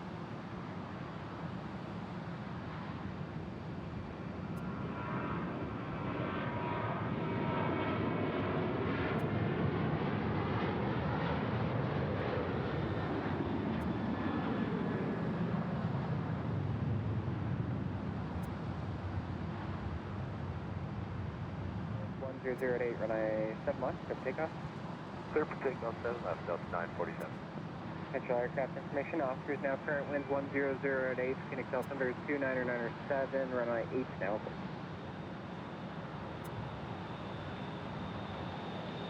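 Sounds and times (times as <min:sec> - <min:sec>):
jet airliner passing: 0:00.0 - 0:39.0
jet engine whine: 0:00.0 - 0:39.0.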